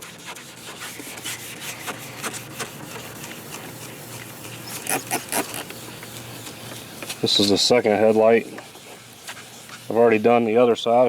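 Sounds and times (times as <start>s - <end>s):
sanding pad rubbing plastic: 0.0s - 10.5s.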